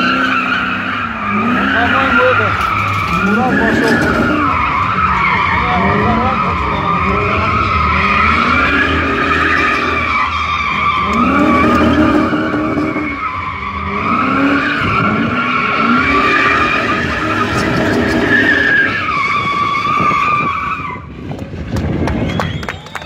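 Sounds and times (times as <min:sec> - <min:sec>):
tyres squealing: 0:00.0 - 0:20.9
car engine revving: 0:00.0 - 0:22.6.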